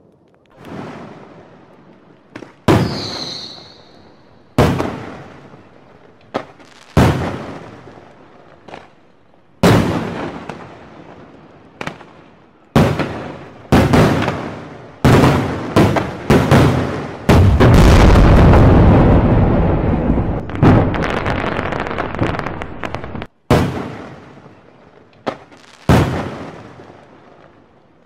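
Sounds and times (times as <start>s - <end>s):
fireworks bursting: 0.1s - 9.0s, 9.6s - 27.8s.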